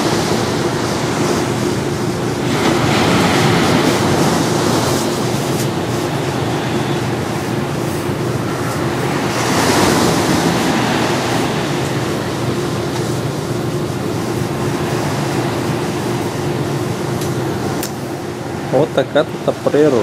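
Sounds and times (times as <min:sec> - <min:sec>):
ocean waves on beach: 0:00.0 - 0:20.0.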